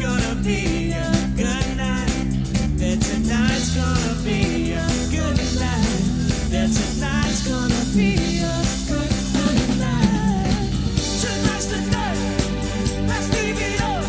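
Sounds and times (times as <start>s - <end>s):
bass: 0.0s - 14.0s
drum beat: 0.0s - 14.0s
person singing: 0.0s - 14.0s.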